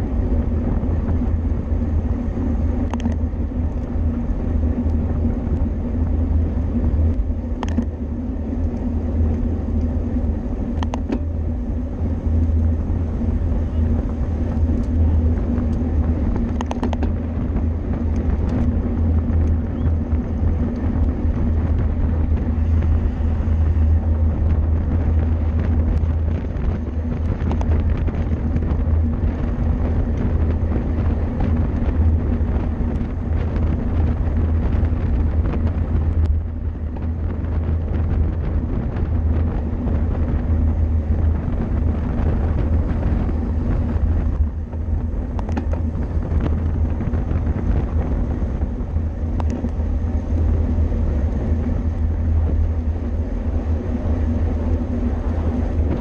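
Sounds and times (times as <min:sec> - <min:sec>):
tyre and road noise: 0:00.0 - 0:56.0
wind rushing over microphone: 0:00.0 - 0:56.0.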